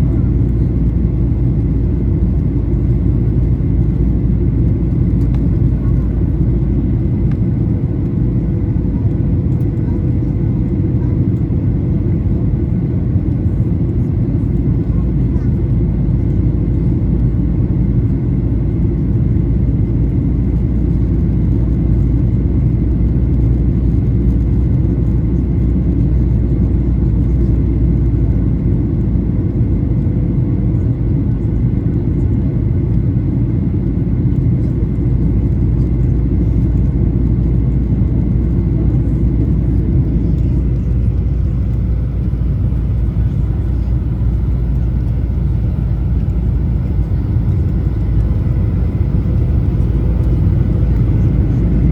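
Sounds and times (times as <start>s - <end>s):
aircraft cabin rumble: 0.0s - 51.9s.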